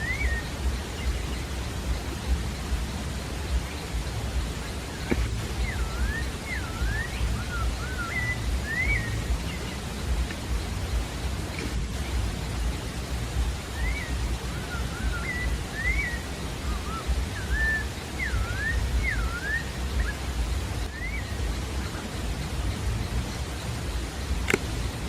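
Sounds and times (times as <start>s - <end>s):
bird whistling song: 0.0s - 25.0s
steady low rumble: 0.0s - 25.0s.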